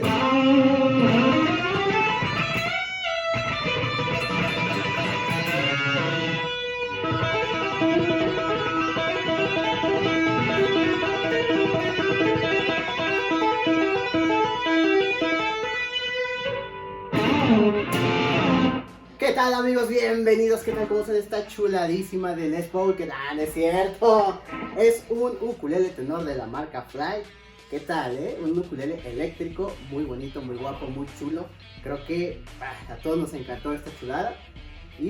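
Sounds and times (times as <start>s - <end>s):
electric guitar music: 0.0s - 35.0s.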